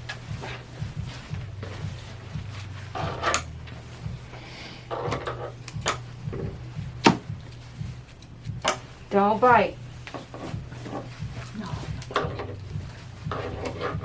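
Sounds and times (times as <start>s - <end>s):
grooming tools clicking and knocking: 0.0s - 4.3s, 4.9s - 8.9s, 9.5s - 14.0s.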